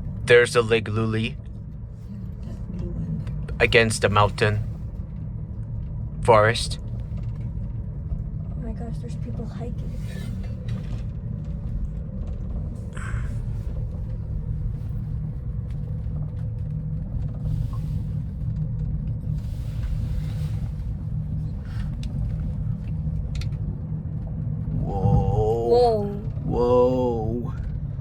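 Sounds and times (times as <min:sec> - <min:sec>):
faint hum: 0:00.0 - 0:28.0
gondola cabin rumble: 0:00.0 - 0:28.0.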